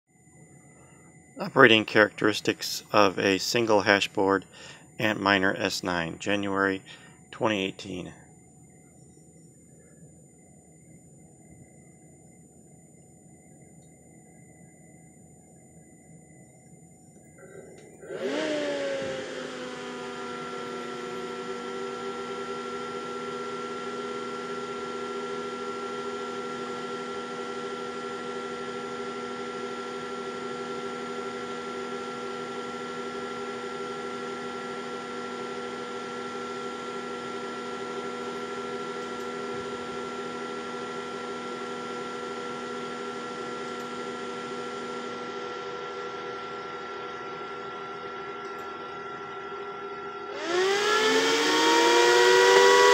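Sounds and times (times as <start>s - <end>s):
cooling fans whirring: 0.2s - 52.9s.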